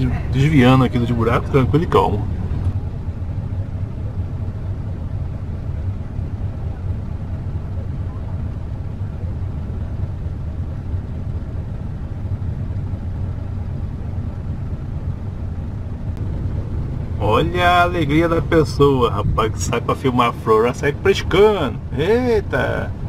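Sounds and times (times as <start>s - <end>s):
motorhome engine rumbling: 0.0s - 23.0s.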